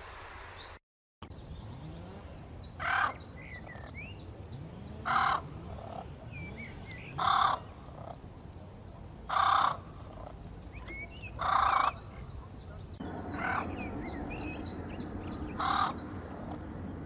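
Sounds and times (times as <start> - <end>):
small birds chirping: 0.0 - 17.0
large bird harsh call: 1.8 - 8.2, 9.3 - 16.6.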